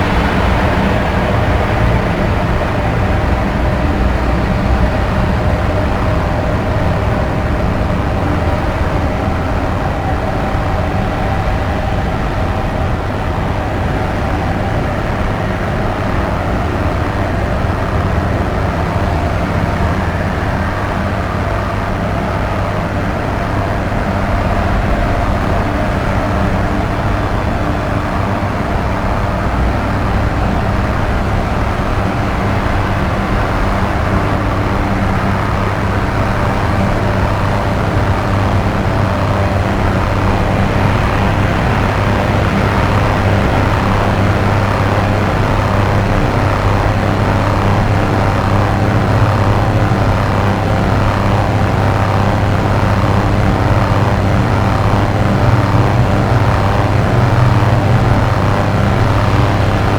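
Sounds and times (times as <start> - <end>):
low electronic drone hum: 0.0 - 59.9
noisy rumbling texture: 0.0 - 59.9.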